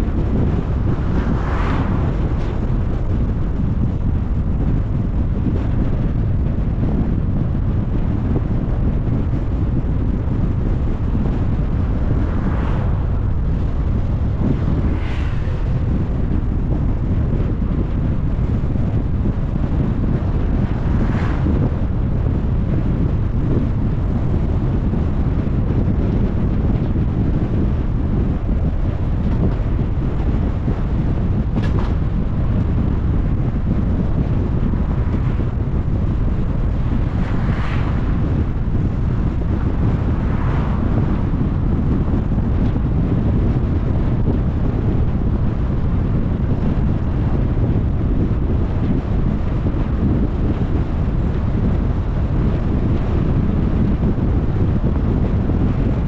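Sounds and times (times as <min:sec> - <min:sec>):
car road noise: 0:00.0 - 0:56.0
wind buffeting microphone: 0:00.0 - 0:56.0.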